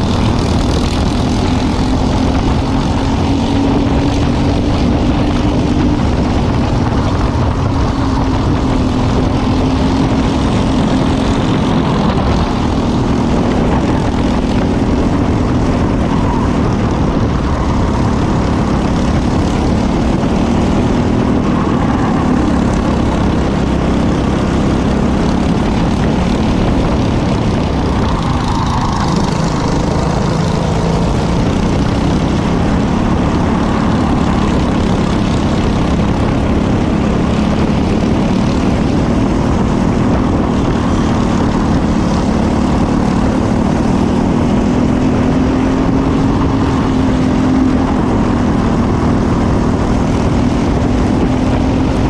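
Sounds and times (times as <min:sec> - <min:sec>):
kart engine running hard: 0:00.0 - 0:52.0.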